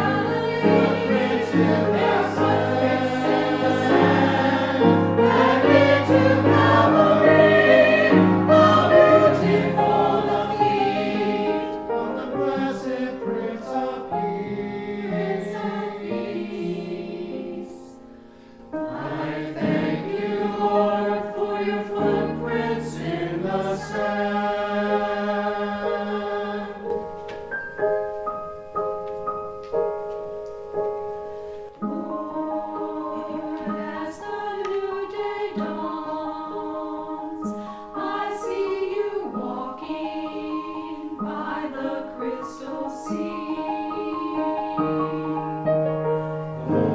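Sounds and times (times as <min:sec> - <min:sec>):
choir singing sacred piece: 0:00.0 - 0:27.4, 0:31.5 - 0:46.9.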